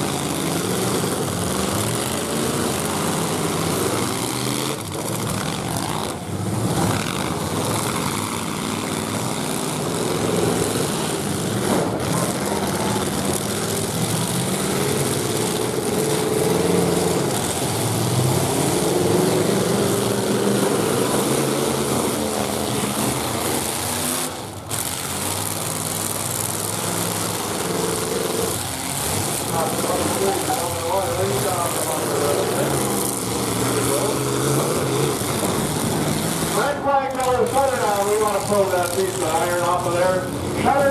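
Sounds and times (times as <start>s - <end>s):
truck engines revving hard: 0.0s - 40.9s.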